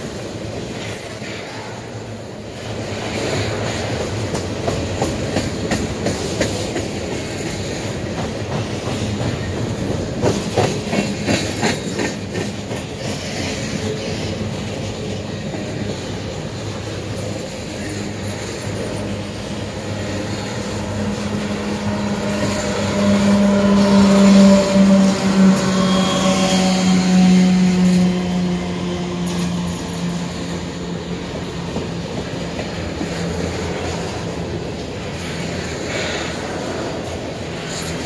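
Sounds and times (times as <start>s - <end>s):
freight cars rumbling on rails: 0.0s - 38.0s.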